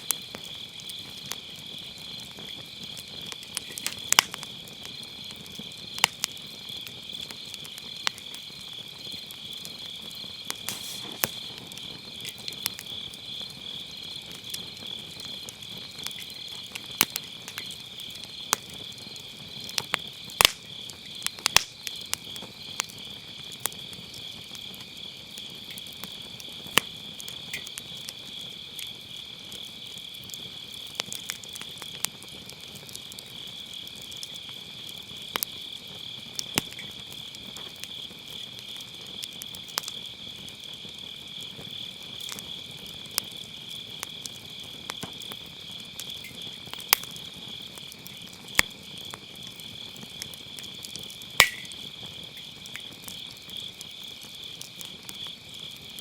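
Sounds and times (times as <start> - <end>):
firewood crackling and popping: 0.0 - 56.0
night insects chorus: 0.0 - 56.0.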